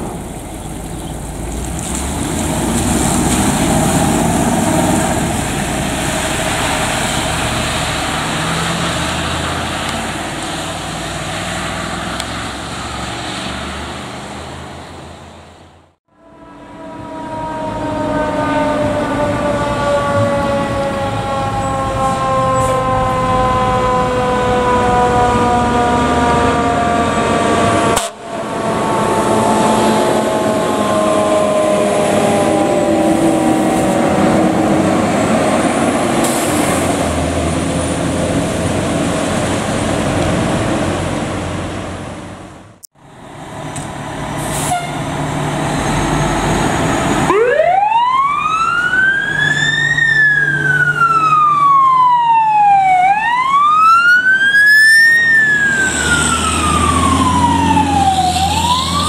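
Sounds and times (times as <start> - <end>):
engine and road noise: 0.0 - 59.0
fire truck siren wailing: 2.1 - 15.1, 16.1 - 41.8, 42.8 - 59.0.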